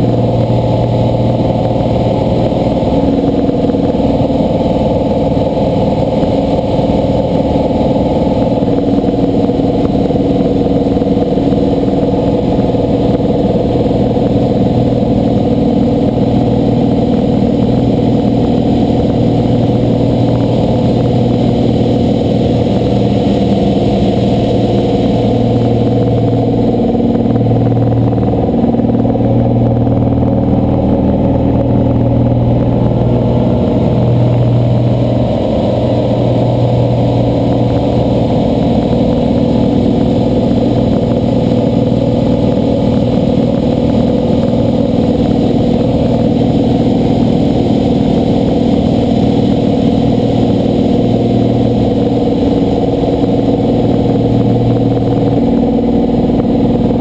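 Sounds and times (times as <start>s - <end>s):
propeller aircraft engine in flight: 0.0s - 57.0s.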